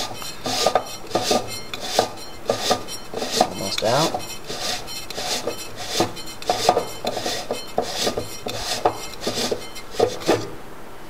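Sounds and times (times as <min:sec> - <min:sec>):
threads scraping and grinding: 0:00.0 - 0:10.5.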